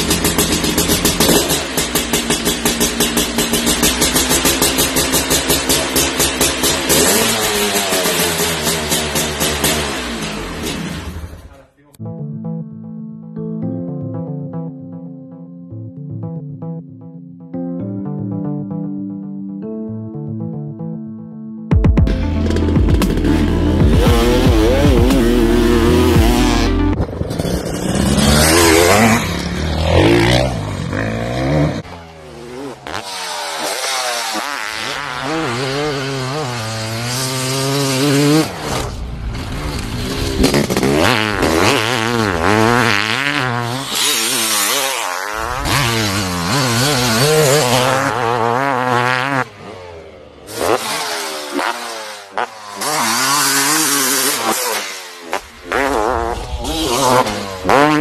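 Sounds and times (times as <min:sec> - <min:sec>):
dirt bike engines revving: 0:00.0 - 0:11.6, 0:23.2 - 0:58.0.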